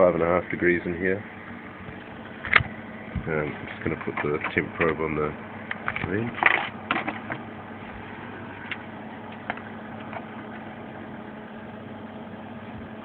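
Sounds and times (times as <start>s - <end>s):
compressor and fan hum: 0.0s - 13.0s.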